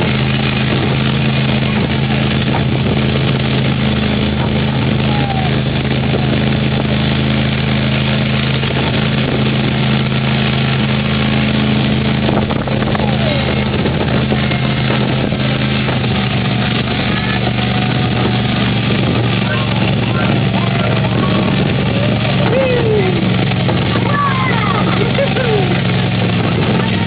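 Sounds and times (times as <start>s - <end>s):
road and ride noise: 0.0s - 27.0s.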